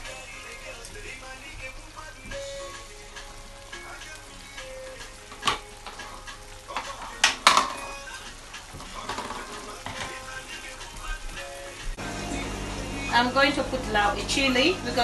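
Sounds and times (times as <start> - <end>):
soup sizzling in oil: 0.0 - 15.0.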